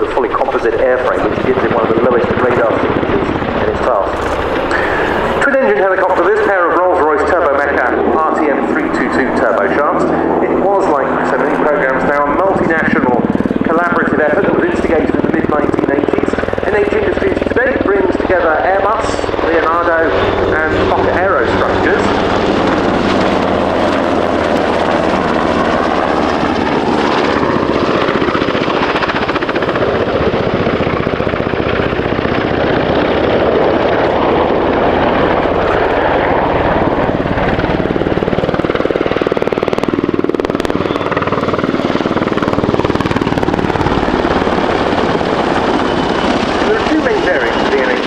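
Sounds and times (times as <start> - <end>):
helicopter engine noise: 0.0 - 48.0
helicopter rotor chopping: 0.0 - 48.0.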